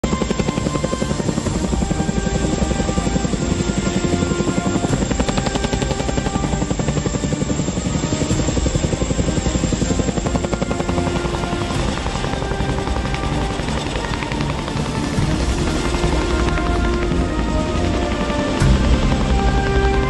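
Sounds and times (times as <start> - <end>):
helicopter rotors beating: 0.0 - 20.0
music: 0.0 - 20.0.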